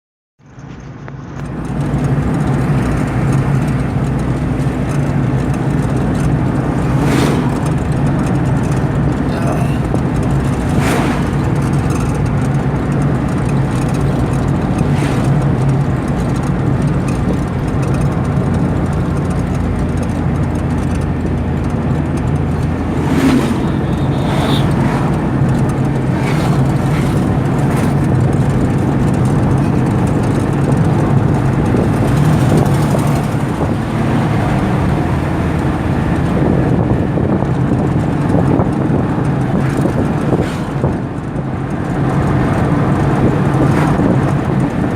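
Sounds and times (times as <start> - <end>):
car engine hum: 0.4 - 44.9
tyre and road noise: 0.4 - 44.9.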